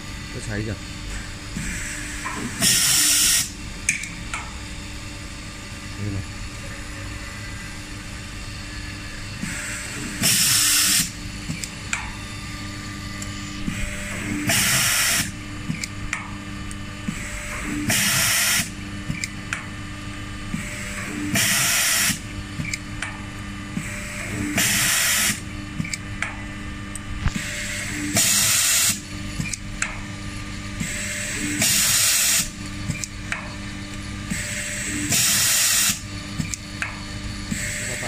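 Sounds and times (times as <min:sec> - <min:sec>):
machine hum: 0:00.0 - 0:38.0.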